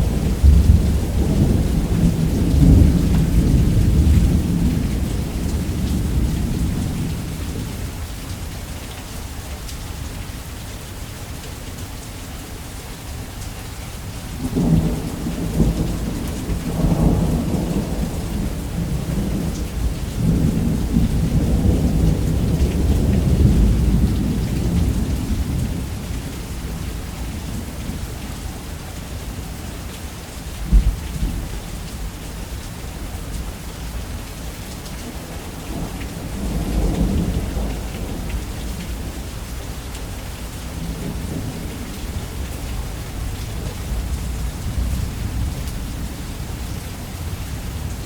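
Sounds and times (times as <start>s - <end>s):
thunder rumble: 0.0s - 7.6s, 14.4s - 29.6s, 30.6s - 33.6s, 35.0s - 48.0s
heavy rain: 0.0s - 48.0s.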